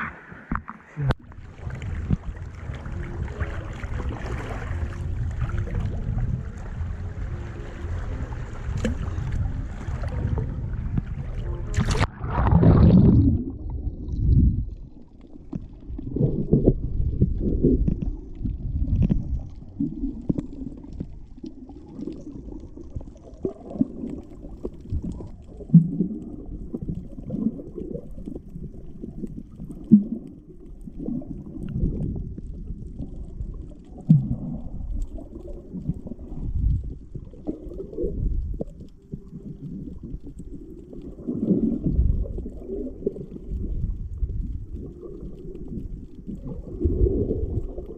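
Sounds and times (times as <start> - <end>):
underwater rumbling and gurgling: 0.0 - 47.9.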